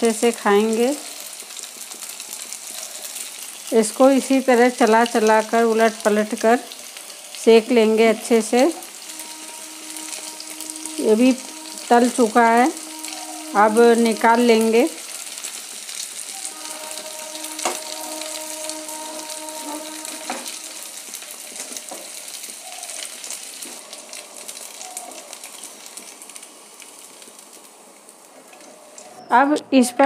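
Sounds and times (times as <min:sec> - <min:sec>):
food sizzling in hot oil: 0:00.0 - 0:29.2.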